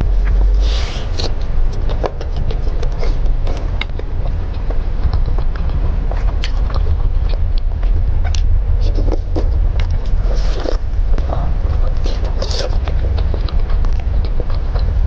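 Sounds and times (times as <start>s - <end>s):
person chewing food: 0.0s - 15.0s
steady low hum: 0.0s - 15.0s.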